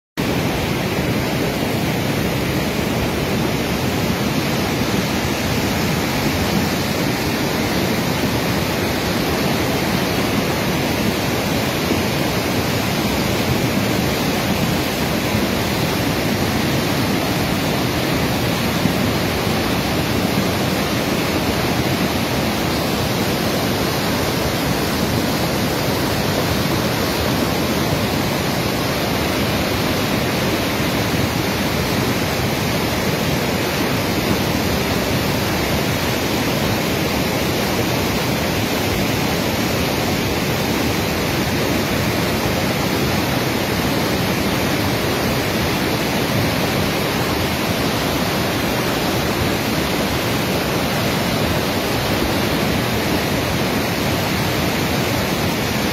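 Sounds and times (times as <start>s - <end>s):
mountain stream rushing: 0.2s - 55.9s.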